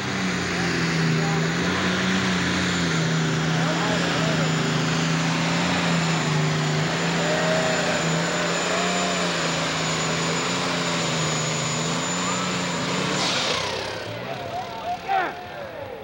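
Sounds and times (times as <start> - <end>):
diesel tractor engine under load: 0.0 - 16.0.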